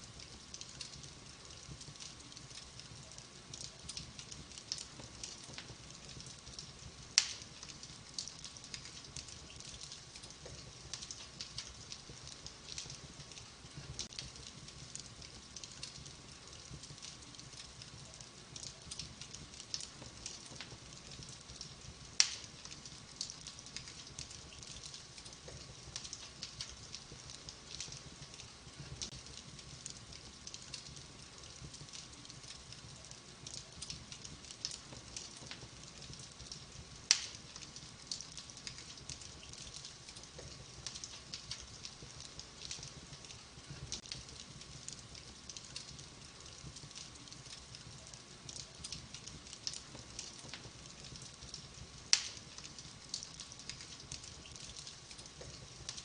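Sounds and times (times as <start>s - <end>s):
wood fire crackling: 0.0s - 56.0s
sharp pops from fire: 0.1s - 56.0s.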